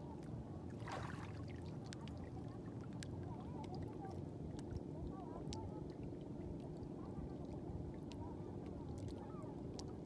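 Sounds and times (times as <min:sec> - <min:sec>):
low steady rumble: 0:00.0 - 0:10.0
seawater lapping and trickling: 0:00.0 - 0:10.0.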